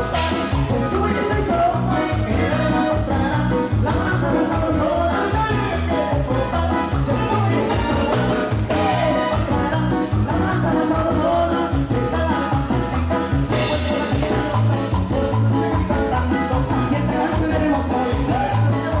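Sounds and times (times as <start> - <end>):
latin dance music: 0.0 - 19.0.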